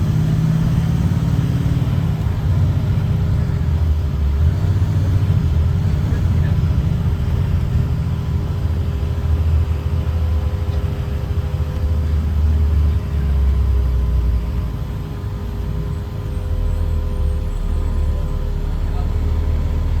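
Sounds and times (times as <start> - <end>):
bus diesel engine rumble: 0.0 - 20.0.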